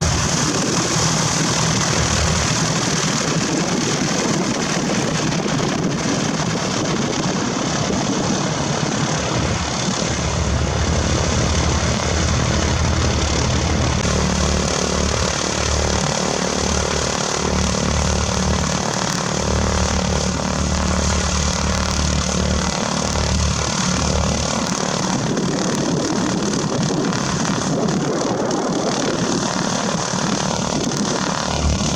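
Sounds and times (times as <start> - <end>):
propeller aircraft engine droning: 0.0 - 31.9.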